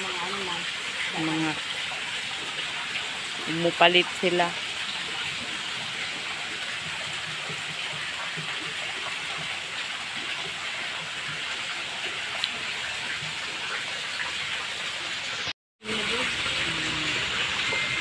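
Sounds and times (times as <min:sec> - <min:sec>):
water pouring into a pond: 0:00.0 - 0:18.0.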